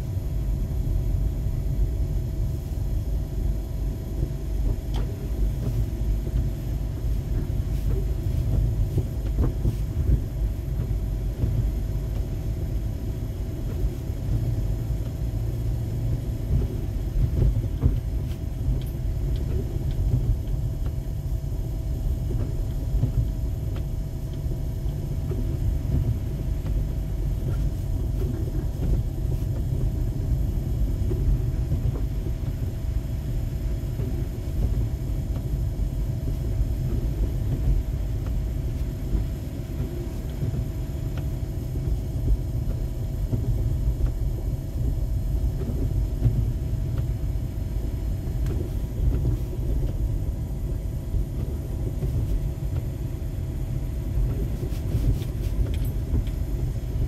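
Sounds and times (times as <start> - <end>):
faint steady hum: 0.0 - 57.0
low rumble of engine and tyres: 0.0 - 57.0.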